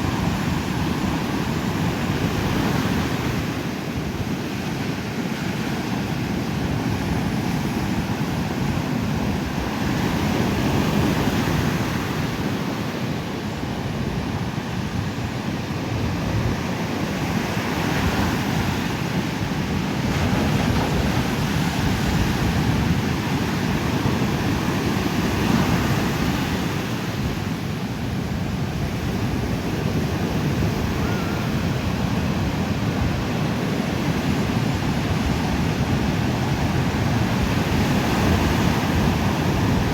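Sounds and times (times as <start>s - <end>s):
ocean surf breaking on beach: 0.0s - 39.9s
wind on microphone: 0.0s - 39.9s.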